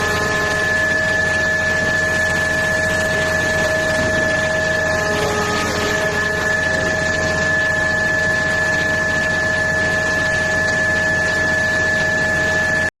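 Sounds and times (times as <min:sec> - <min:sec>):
excavator engine drone: 0:00.0 - 0:12.9
high whine: 0:00.0 - 0:12.9.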